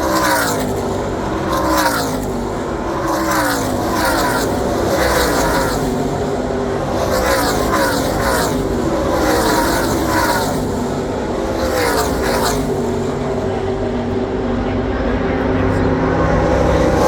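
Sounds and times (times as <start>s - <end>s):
race truck engines passing: 0.0s - 17.0s.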